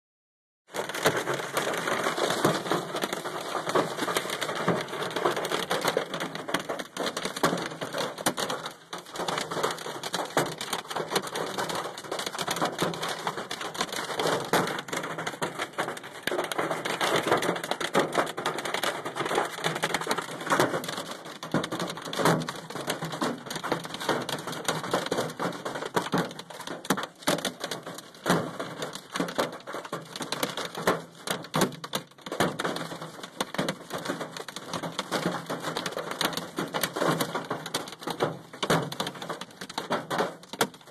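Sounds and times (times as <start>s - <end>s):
hail clattering on truck: 0.7s - 40.9s.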